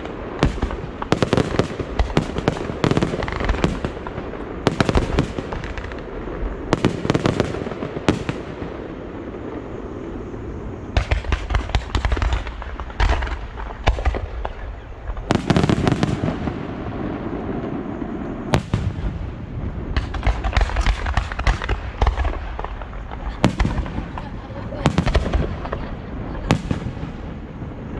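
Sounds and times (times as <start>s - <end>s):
low rumble and crackle: 0.0s - 27.9s.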